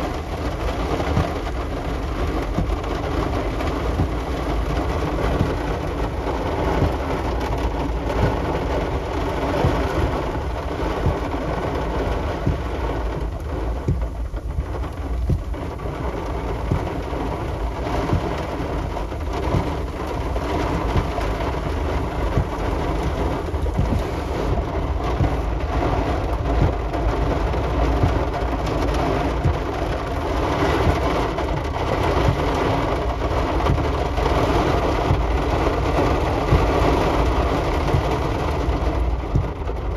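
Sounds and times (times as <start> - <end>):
heavy rain pouring: 0.0 - 39.9
low rumble: 0.0 - 39.9.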